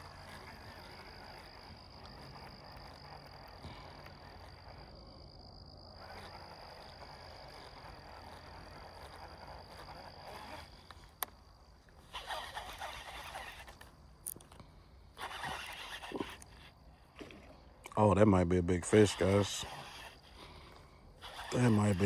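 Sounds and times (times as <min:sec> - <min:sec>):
frogs croaking faintly: 0:00.0 - 0:22.0.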